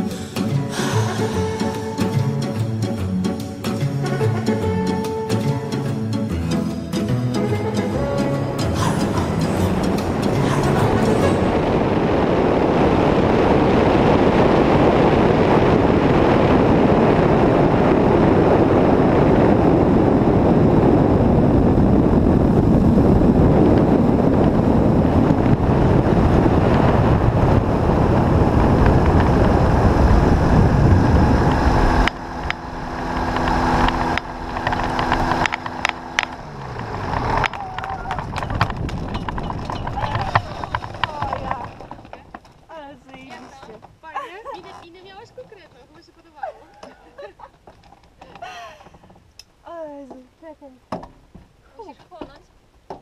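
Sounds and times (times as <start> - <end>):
engine idling hum: 0.0 - 50.1
engine and airflow noise: 0.0 - 53.0.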